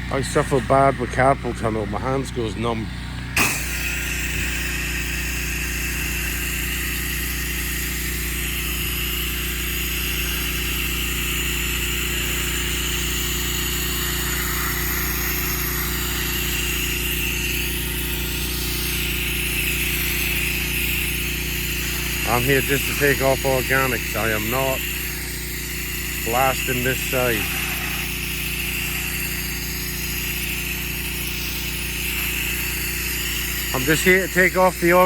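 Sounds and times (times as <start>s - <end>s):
pressure washer engine humming: 0.0s - 35.0s
hissing water spray: 3.4s - 35.0s.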